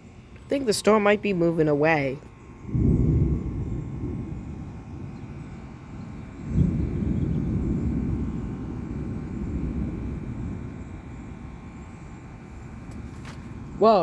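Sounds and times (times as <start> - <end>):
thunder rumbling: 0.0 - 14.0.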